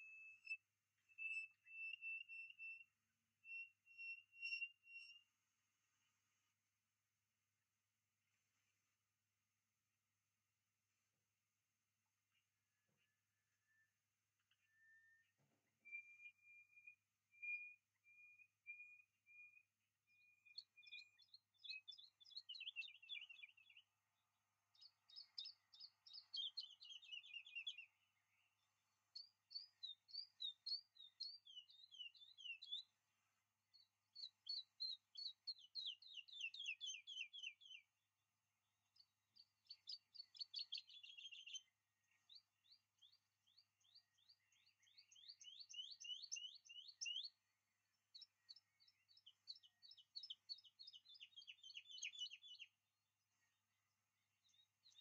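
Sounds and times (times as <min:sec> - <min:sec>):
songbird singing: 0:00.0 - 0:06.5, 0:12.3 - 0:55.0.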